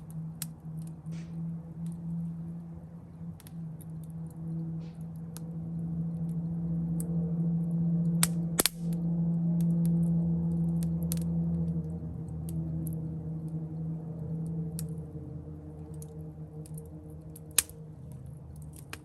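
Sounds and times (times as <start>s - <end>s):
low hum: 0.0s - 19.0s
campfire crackling and popping: 3.3s - 19.0s.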